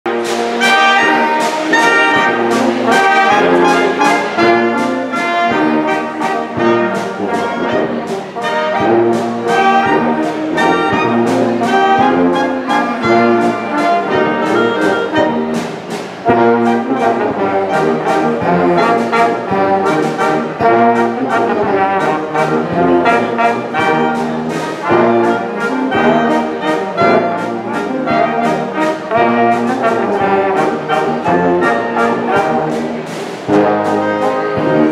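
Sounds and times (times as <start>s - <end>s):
brass and reed band playing: 0.0s - 34.9s.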